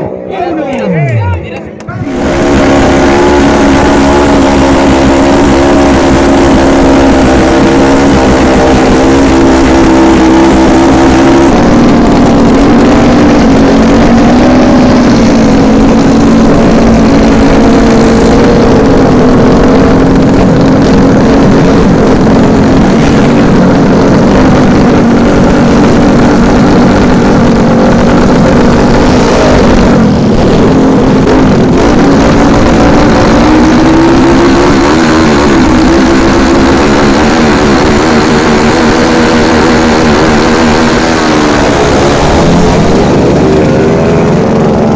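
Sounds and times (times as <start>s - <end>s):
motorcycle engine running: 1.8s - 44.9s.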